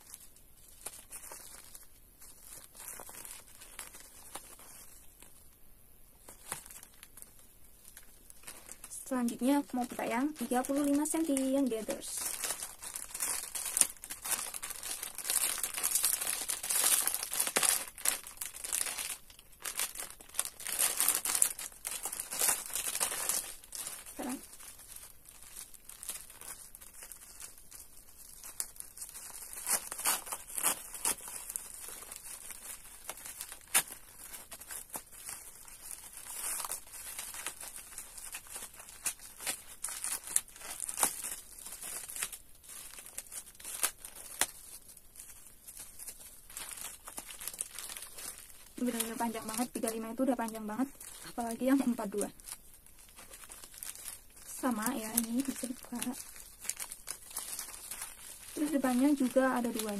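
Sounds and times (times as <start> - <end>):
plastic wrapping crinkling: 0.0 - 59.9.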